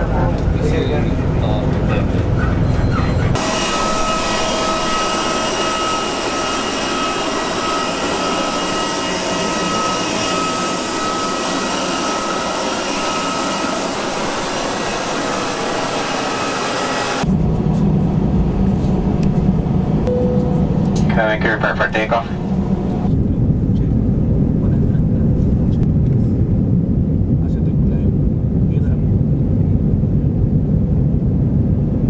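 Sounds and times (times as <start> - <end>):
jet engine hiss and whine: 0.0 - 32.0.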